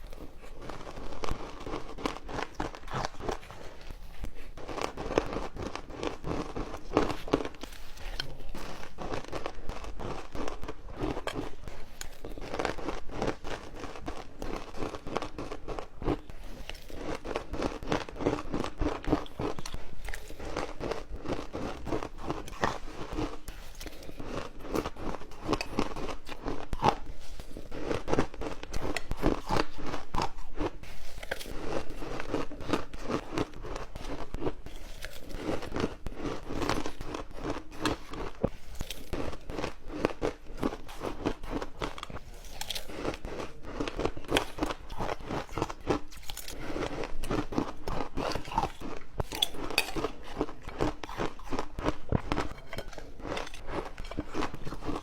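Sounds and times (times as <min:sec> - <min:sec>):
ice cubes crunching between teeth: 0:00.0 - 0:55.0.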